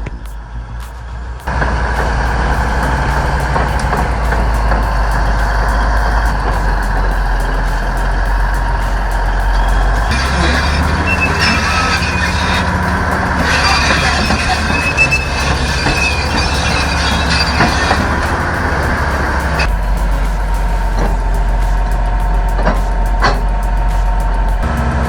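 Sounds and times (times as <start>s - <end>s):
bulldozer diesel engine: 1.5s - 25.0s
reversing alarm beeping: 2.0s - 22.7s.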